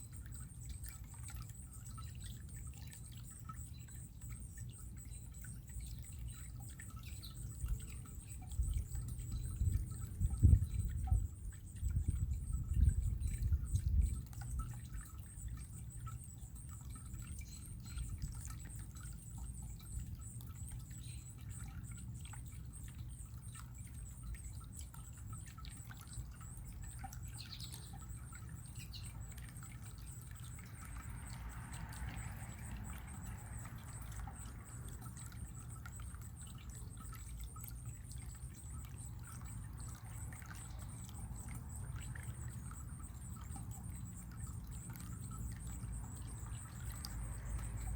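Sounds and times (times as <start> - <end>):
faint bird chirps: 0.0 - 47.9
running water trickling: 0.0 - 47.9
steady high-pitched hum: 0.0 - 47.9.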